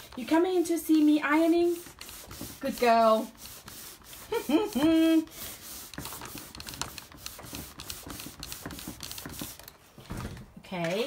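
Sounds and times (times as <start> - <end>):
iron sliding over paper: 0.0 - 9.7.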